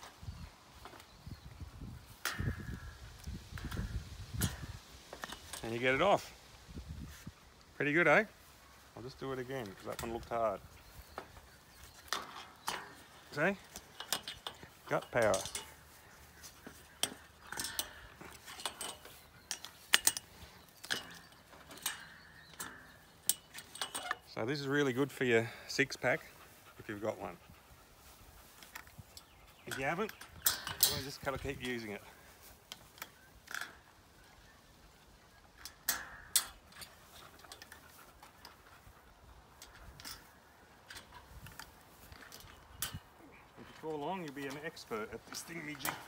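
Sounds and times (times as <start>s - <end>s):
trampoline springs clinking: 1.8s - 6.3s, 9.0s - 46.0s.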